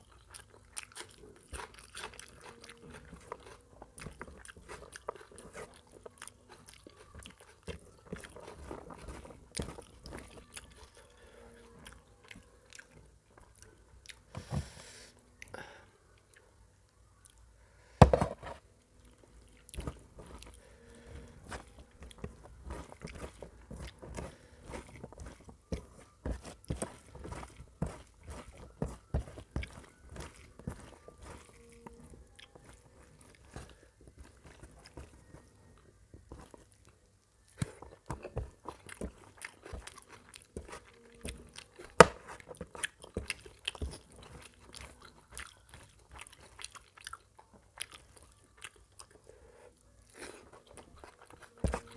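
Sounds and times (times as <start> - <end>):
wet chewing and lip-smacking: 0.0 - 14.3, 19.0 - 49.3, 50.0 - 51.9.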